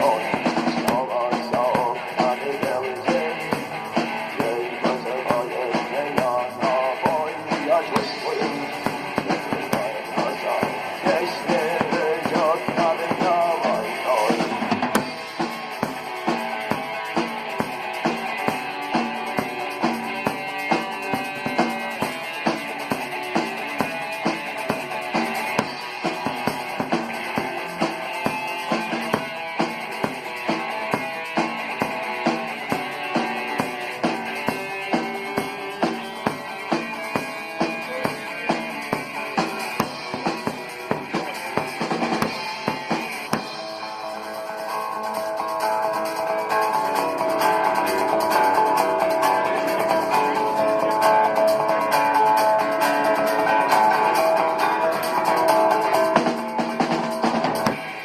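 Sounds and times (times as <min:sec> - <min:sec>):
rock drum beat: 0:00.0 - 0:58.0.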